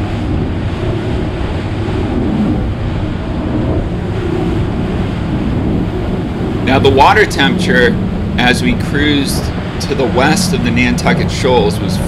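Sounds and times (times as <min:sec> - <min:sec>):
boat engine drone: 0:00.0 - 0:12.0
rushing water: 0:00.0 - 0:12.0
wind on microphone: 0:00.0 - 0:12.0.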